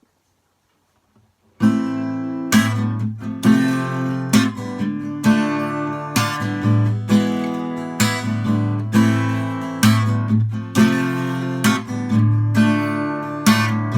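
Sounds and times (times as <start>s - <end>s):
acoustic guitar strumming: 1.6s - 13.9s.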